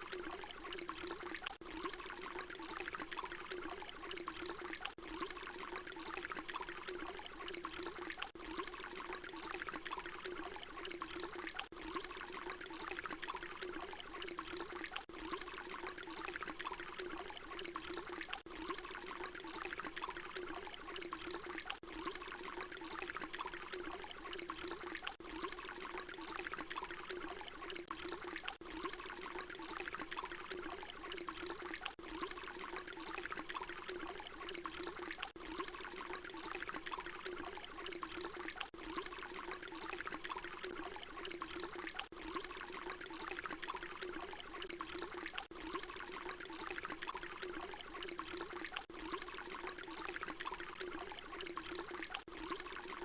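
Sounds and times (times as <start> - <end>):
water pouring: 0.0 - 53.0.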